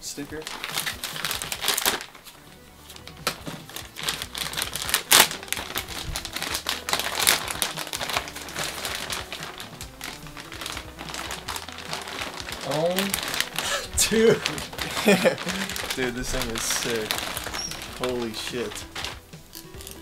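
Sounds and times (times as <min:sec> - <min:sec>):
background music: 0:00.0 - 0:20.0
plastic bag crinkling: 0:00.2 - 0:20.0.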